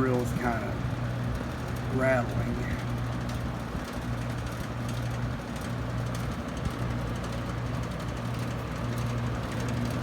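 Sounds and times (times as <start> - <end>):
box fan motor hum and air rush: 0.0 - 10.0.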